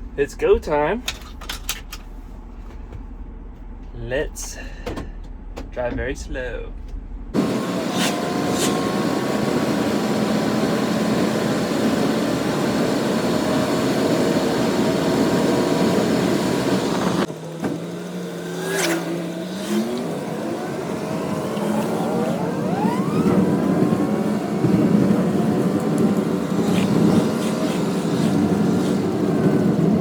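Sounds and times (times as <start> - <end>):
road noise: 0.0 - 30.0
vehicle engine: 0.0 - 30.0.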